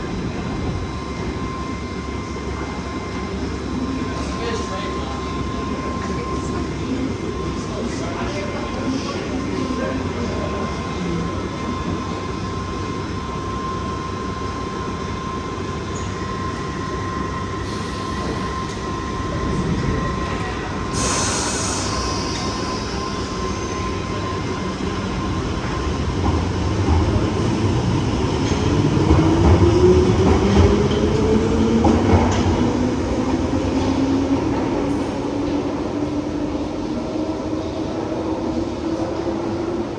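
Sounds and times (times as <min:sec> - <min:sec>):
train standing with steady tone: 0:00.0 - 0:39.9.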